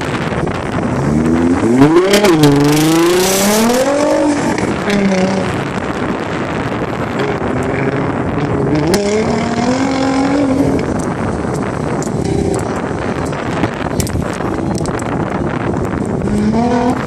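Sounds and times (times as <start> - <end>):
car engine accelerating: 0.0 - 17.0
steady noisy background: 0.0 - 17.0.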